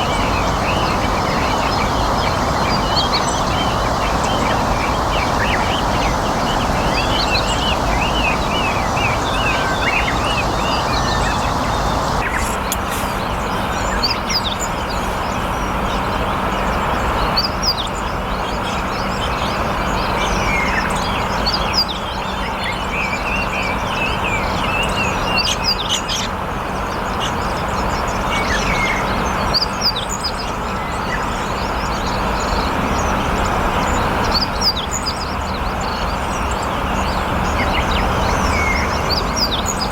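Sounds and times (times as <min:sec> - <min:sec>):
small birds chirping: 0:00.0 - 0:39.9
steady rushing background noise: 0:00.0 - 0:39.9.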